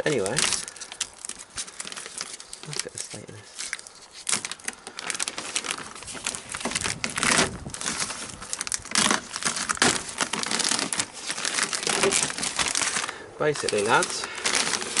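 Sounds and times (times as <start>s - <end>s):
plastic sheet crinkling: 0.0s - 15.0s.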